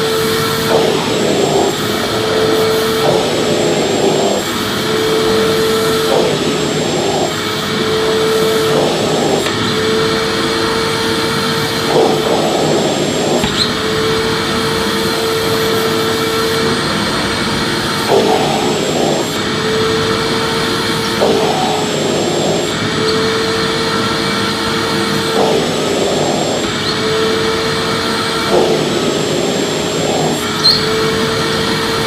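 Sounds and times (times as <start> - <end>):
vacuum cleaner humming: 0.0 - 32.0.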